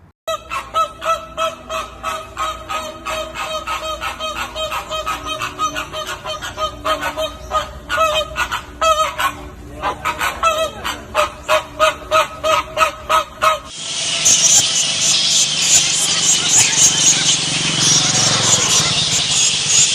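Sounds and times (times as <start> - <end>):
flock of birds honking: 0.3 - 19.9.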